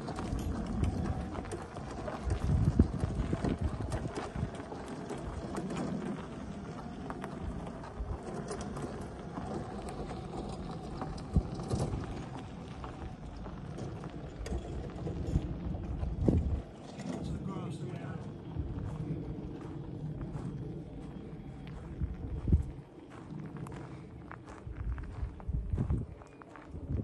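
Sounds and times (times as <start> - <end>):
wheels crunching on gravel: 0.0 - 27.0
footsteps on gravel: 0.1 - 27.0.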